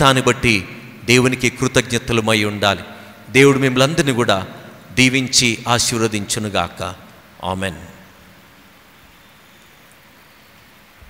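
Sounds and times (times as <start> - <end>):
room tone hiss: 0.0 - 11.0.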